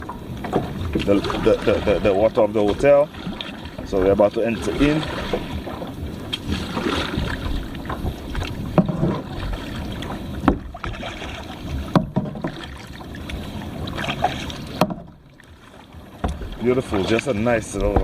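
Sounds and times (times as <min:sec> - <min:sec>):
paddle splashing in water: 0:00.0 - 0:18.0.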